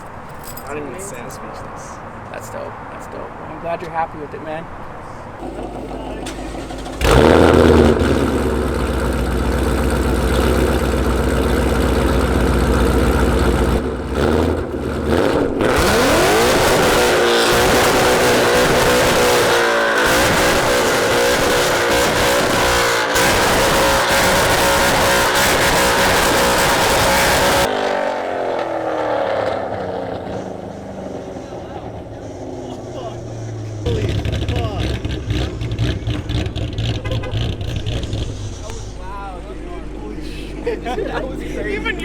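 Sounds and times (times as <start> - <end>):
car engine revving: 5.4 - 41.2.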